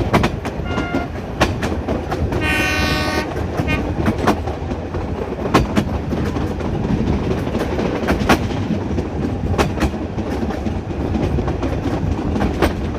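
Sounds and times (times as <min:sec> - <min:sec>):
train wheels rumbling on rail: 0:00.0 - 0:12.9
wheels clacking over rail joints: 0:00.0 - 0:12.9.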